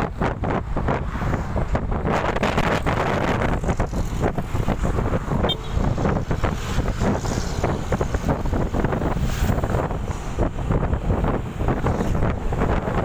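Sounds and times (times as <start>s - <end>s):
road and vehicle noise: 0.0s - 13.0s
wind buffeting microphone: 0.0s - 13.0s.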